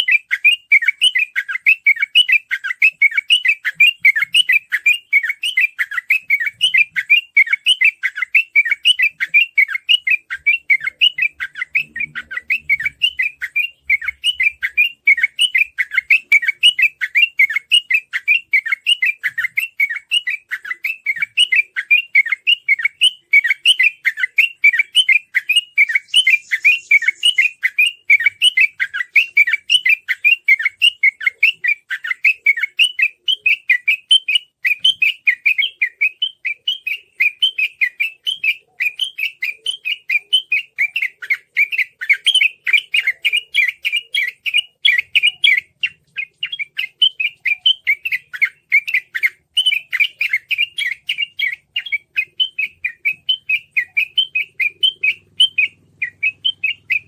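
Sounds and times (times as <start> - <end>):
bird chattering song: 0.0 - 57.0.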